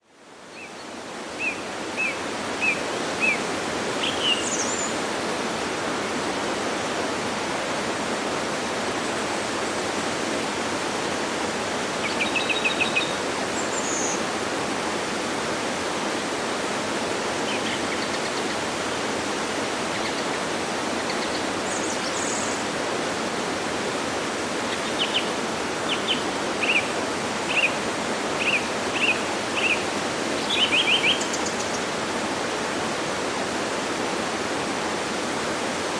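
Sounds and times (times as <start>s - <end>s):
waterfall rushing: 0.4s - 35.9s.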